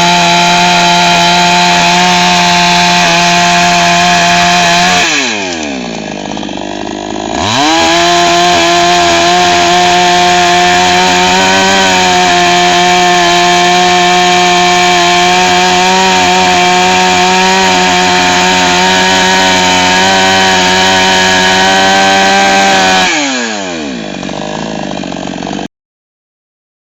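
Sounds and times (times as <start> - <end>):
chainsaw engine revving: 0.0 - 25.7.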